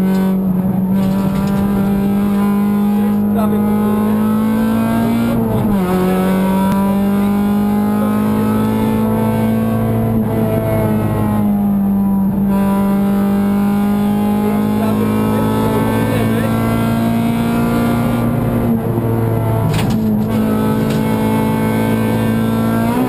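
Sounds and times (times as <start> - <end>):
car engine at high revs: 0.0 - 23.0.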